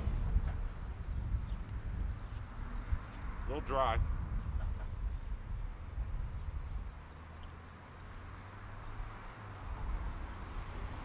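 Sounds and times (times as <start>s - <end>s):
low street rumble: 0.0s - 11.0s.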